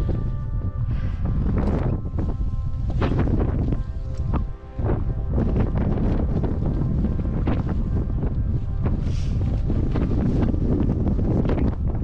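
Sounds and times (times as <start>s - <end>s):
background music with held notes: 0.0s - 12.0s
wind buffeting microphone: 0.0s - 12.0s.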